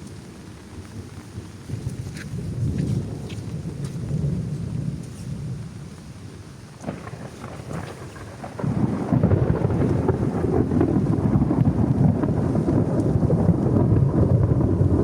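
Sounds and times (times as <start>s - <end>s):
low rumble of thunder: 0.0s - 15.0s
rain on a plastic tarp: 0.0s - 15.0s.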